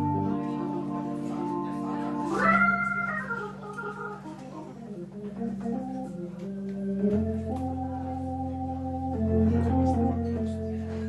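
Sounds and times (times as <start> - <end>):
organ through rotating speaker: 0.0 - 10.9.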